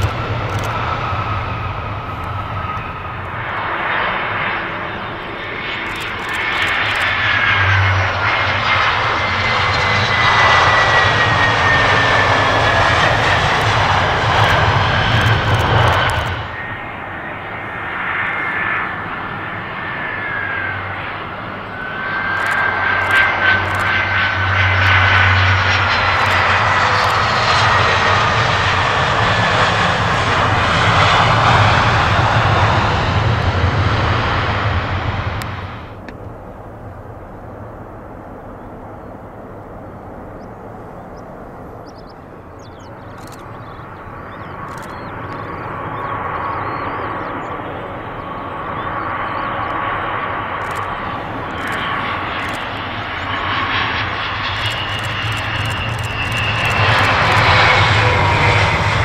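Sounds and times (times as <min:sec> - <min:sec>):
jet plane engines rumbling and whining: 0:00.0 - 0:59.0.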